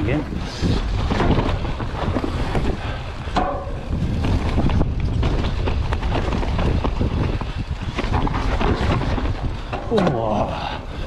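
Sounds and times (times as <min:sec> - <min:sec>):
bike rattling over rocks: 0:00.0 - 0:11.0
wind buffeting microphone: 0:00.0 - 0:11.0.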